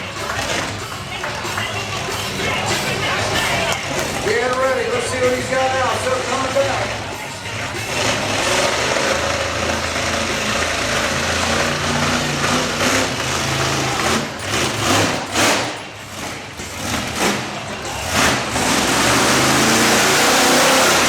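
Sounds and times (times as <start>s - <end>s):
monster truck engine running loud: 0.0s - 21.0s.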